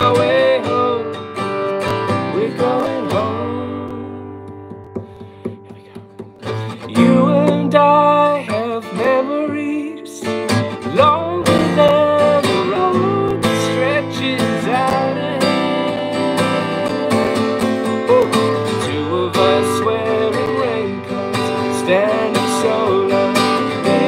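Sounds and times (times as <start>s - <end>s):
man and woman singing: 0.0s - 1.2s, 2.1s - 4.6s, 6.8s - 24.0s
acoustic guitar strumming: 0.0s - 24.0s.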